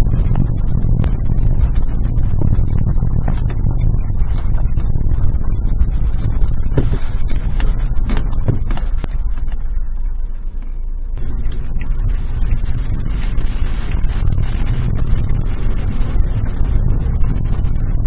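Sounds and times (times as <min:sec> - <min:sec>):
stones and body rattling: 0:00.0 - 0:17.8
engine rumble: 0:00.0 - 0:18.0.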